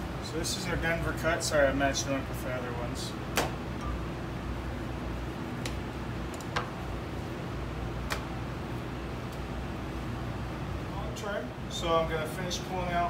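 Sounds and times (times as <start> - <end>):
ventilation hum: 0.0 - 13.0.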